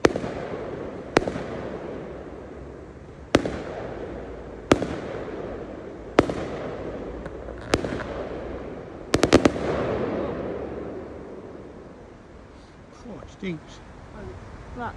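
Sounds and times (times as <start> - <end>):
fireworks bursting with sharp bangs: 0.0 - 12.6.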